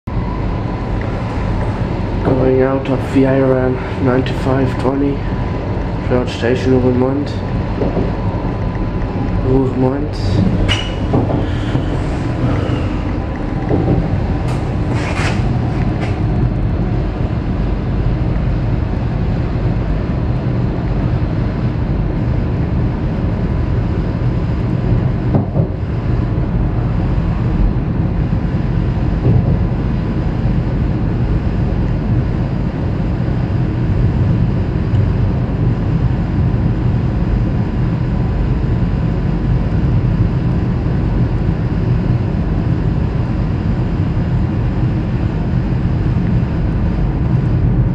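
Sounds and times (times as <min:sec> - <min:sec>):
electric train rumble and hum: 0:00.0 - 0:47.9.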